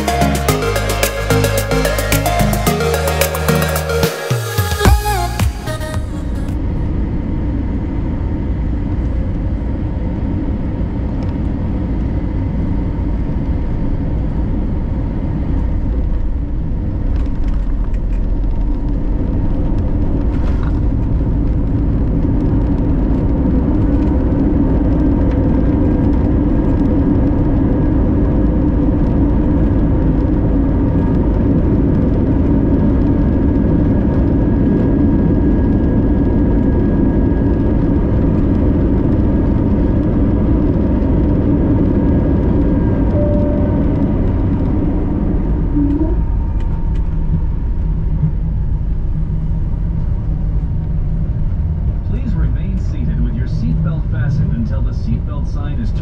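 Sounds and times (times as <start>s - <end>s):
airliner cabin engine rumble: 5.7s - 56.0s.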